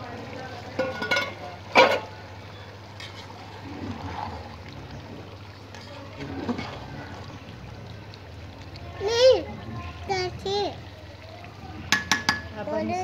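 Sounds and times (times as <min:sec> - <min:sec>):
broth bubbling in metal pot: 0:00.0 - 0:13.0.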